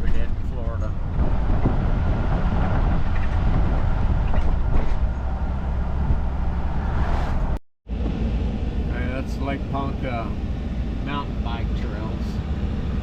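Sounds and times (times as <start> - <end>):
vehicle road rumble: 0.0 - 13.0.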